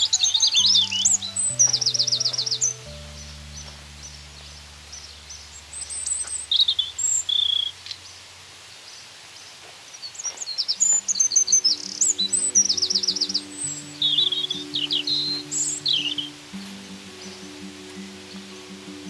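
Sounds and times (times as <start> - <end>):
faint background music: 0.0 - 7.3, 10.4 - 19.0
songbirds chirping: 0.0 - 19.0.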